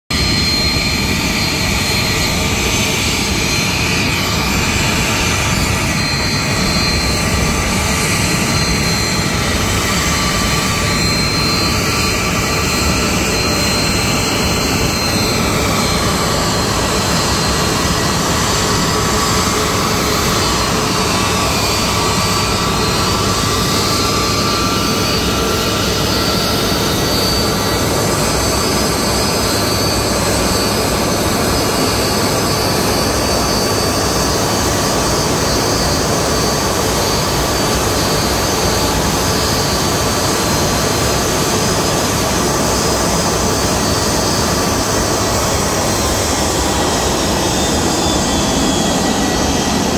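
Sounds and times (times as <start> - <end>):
jet engines idling: 0.1 - 49.9.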